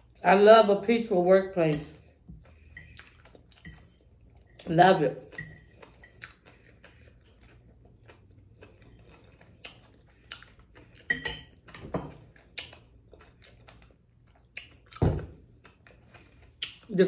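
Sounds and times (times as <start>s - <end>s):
chewing food: 2.0s - 17.0s.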